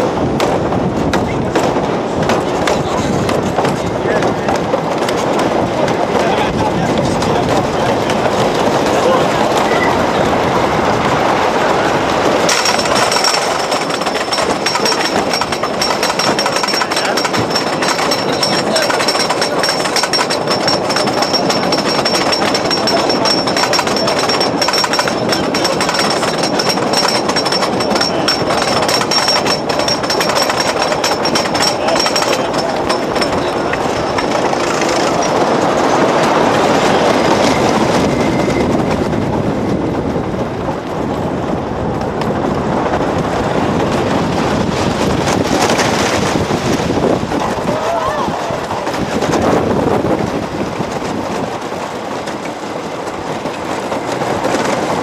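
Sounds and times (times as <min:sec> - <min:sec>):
roller coaster on track: 0:00.0 - 0:55.0
wind on microphone: 0:00.0 - 0:55.0.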